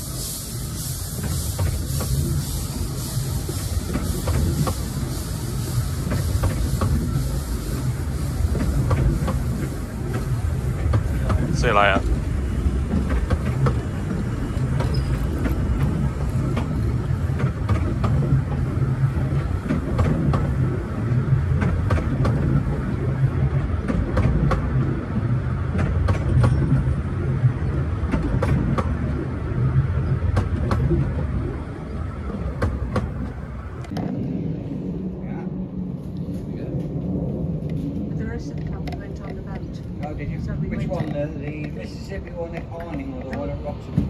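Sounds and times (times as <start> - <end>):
wheels clicking on track: 0.0 - 34.2, 36.1 - 44.0
miniature train rumbling past: 0.0 - 44.0.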